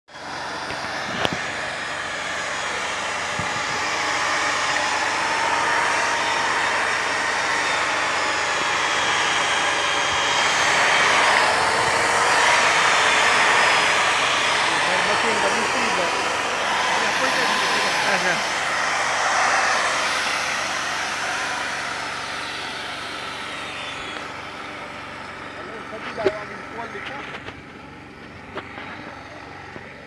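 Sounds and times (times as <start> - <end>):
electric drill boring into wood: 0.1 - 30.0.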